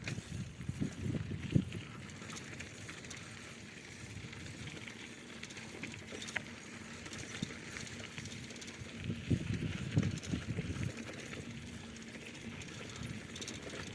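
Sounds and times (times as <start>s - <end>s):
bicycle rumbling and rattling: 0.0s - 13.9s.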